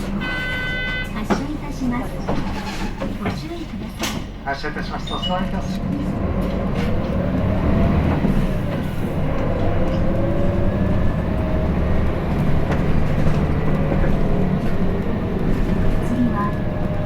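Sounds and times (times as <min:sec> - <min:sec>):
bus diesel engine accelerating: 0:00.0 - 0:17.0.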